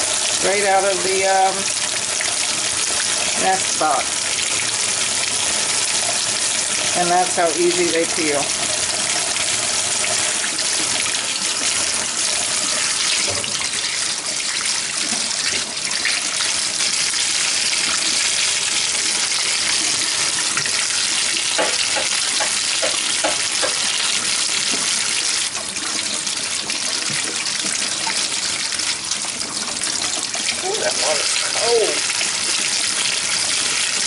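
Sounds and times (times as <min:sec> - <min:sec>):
tap water running into sink: 0:00.0 - 0:34.0.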